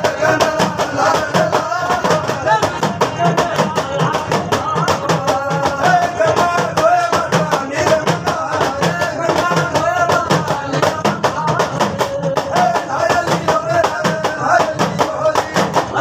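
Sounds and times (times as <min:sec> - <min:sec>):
fast percussion beat: 0:00.0 - 0:16.0.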